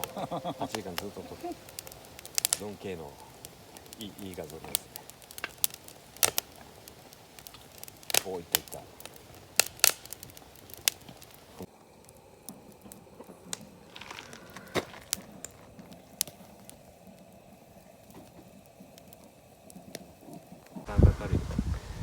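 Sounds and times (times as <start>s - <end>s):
campfire crackling and popping: 0.0s - 22.0s
faint hiss: 0.0s - 22.0s.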